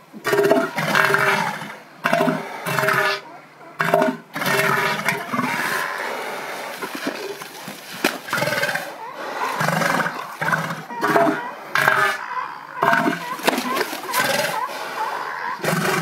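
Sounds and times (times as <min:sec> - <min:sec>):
elephant seals calling: 0:00.0 - 0:16.0.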